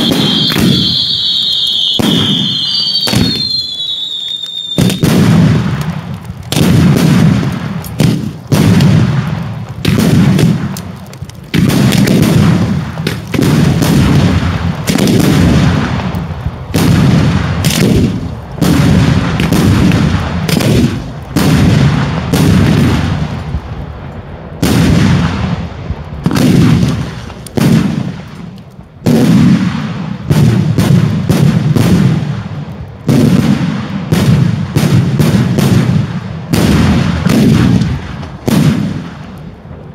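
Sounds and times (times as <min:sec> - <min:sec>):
fireworks bangs with rumbling tail: 0:00.0 - 0:39.9.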